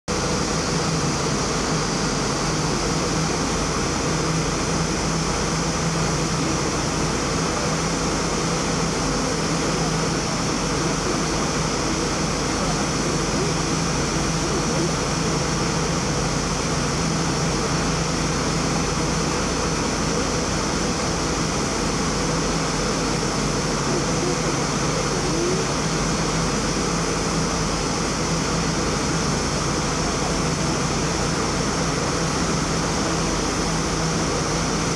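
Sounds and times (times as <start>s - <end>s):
constant low hum: 0.1s - 34.9s.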